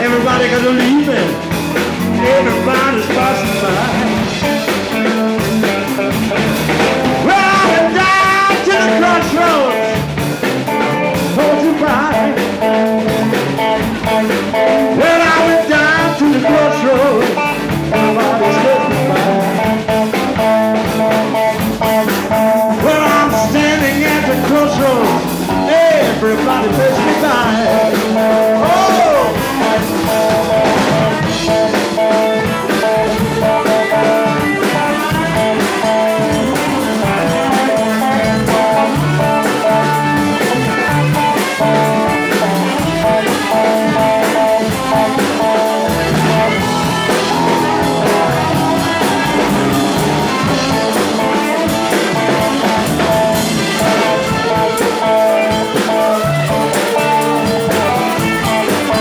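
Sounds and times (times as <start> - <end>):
electric blues band playing: 0.0 - 59.0
harmonica notes bending: 0.0 - 59.0.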